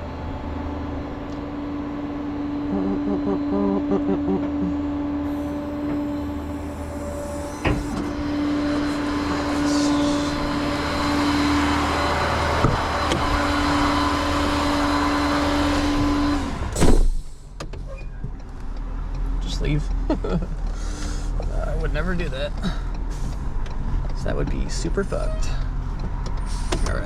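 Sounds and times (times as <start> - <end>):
truck engine whining: 0.0 - 27.0.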